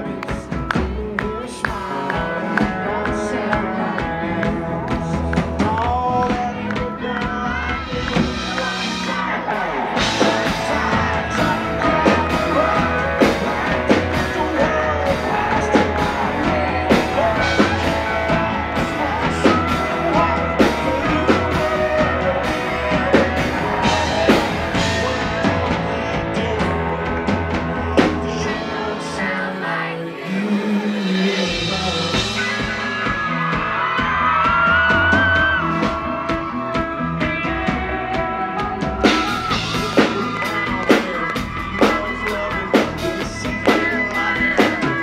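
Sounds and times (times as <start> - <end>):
live country band playing: 0.0 - 45.0
man singing: 0.0 - 45.0.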